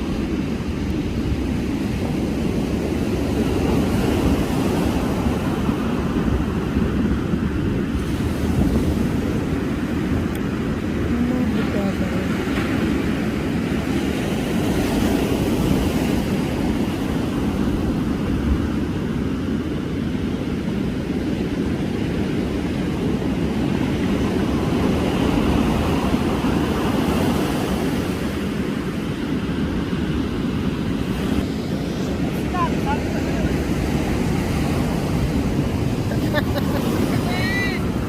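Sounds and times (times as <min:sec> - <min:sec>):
ocean surf on shore: 0:00.0 - 0:38.0
wind buffeting microphone: 0:00.0 - 0:38.0.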